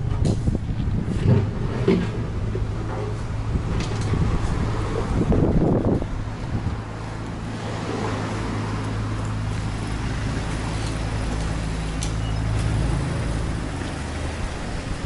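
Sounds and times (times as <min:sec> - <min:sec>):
street traffic engine hum: 0:00.0 - 0:15.0.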